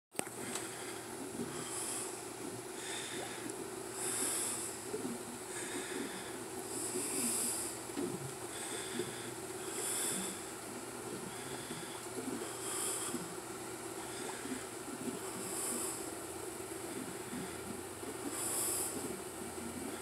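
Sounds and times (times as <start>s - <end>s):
tubular motors humming: 0.2s - 20.0s.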